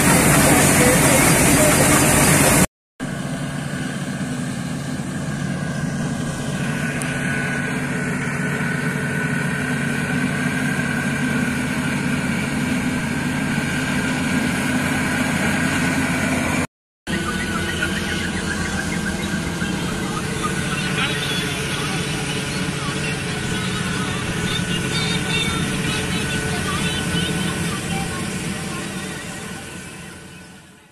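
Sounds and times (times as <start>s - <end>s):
combine harvester drone: 0.0s - 30.9s.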